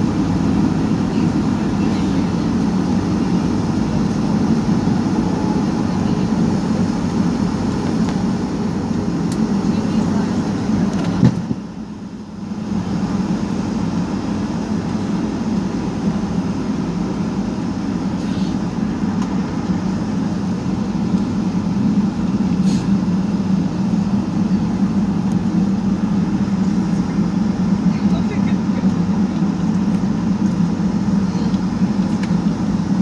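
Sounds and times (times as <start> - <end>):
aircraft engines humming in cabin: 0.0 - 33.0.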